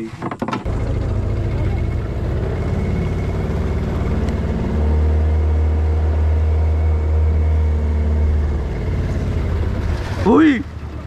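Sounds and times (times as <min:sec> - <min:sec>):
outboard motor running: 0:00.3 - 0:11.0.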